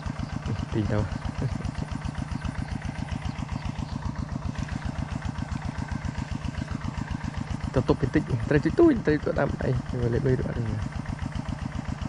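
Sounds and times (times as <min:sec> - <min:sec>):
small engine putting: 0:00.0 - 0:12.0.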